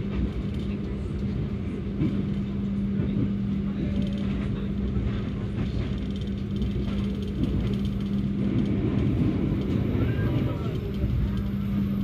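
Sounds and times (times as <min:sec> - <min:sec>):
constant low hum: 0:00.0 - 0:12.0
train wheels rumbling on rails: 0:00.0 - 0:12.0.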